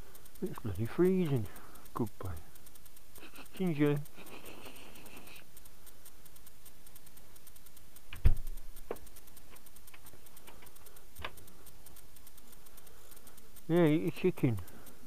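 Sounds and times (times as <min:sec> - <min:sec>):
rapid ticking: 0:00.0 - 0:15.0.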